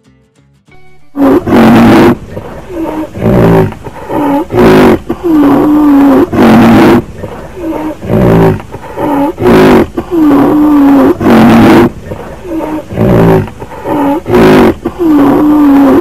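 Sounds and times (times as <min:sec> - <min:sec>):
rhinoceros calls: 0:01.2 - 0:16.0.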